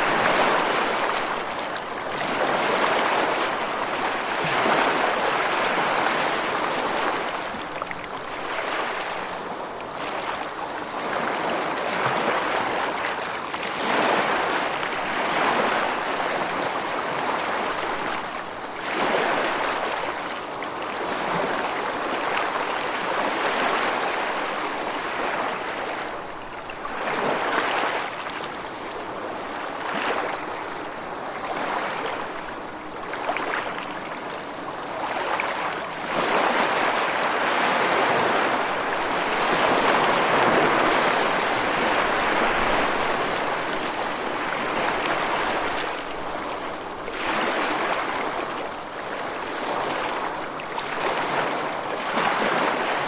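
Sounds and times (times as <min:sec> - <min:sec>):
rushing water: 0:00.0 - 0:53.0.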